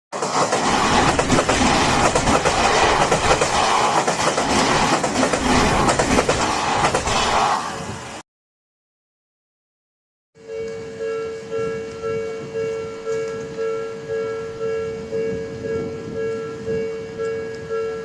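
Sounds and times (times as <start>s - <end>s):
electric train passing: 0.1s - 8.2s, 10.4s - 18.0s.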